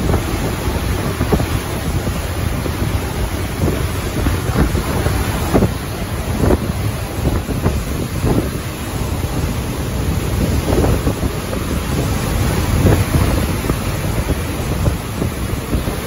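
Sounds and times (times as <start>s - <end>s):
strong gusting wind: 0.0s - 16.0s.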